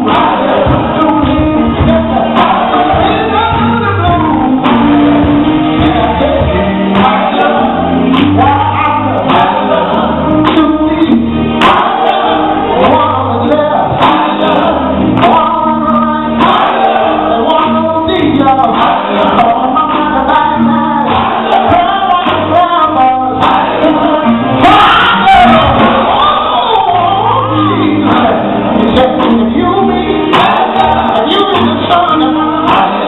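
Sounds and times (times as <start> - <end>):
bass guitar: 0.0 - 33.0
drum kit: 0.0 - 33.0
electric guitar: 0.0 - 33.0
man singing into microphone: 0.0 - 33.0.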